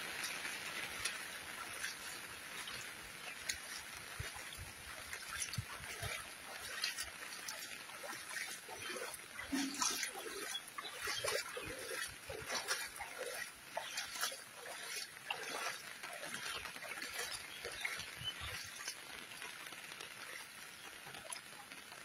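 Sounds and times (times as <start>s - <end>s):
footsteps splashing through water: 0.0s - 22.0s.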